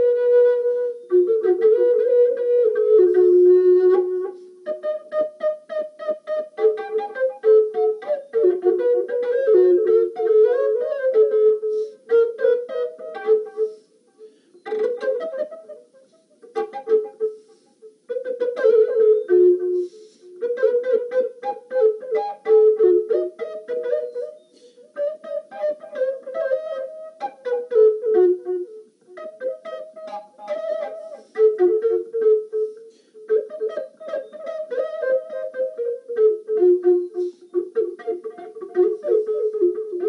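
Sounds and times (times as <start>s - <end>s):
plucked strings: 0.0s - 40.0s
slow flute melody: 0.0s - 40.0s.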